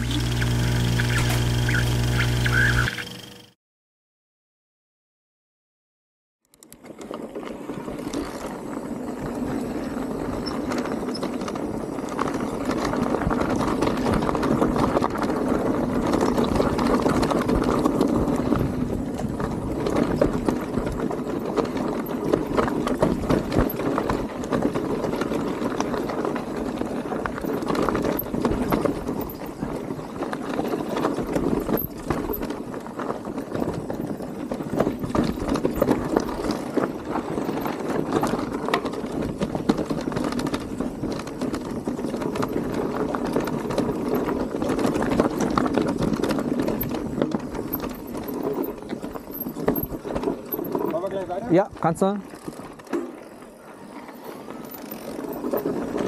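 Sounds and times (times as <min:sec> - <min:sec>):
bike tyres rolling on dirt: 0:06.7 - 0:56.0
bike rattling and knocking: 0:06.8 - 0:56.0.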